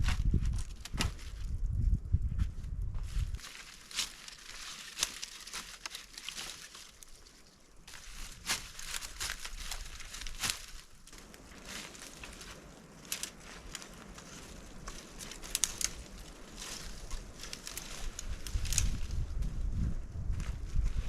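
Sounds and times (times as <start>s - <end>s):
rustling and crackling: 0.0s - 21.0s.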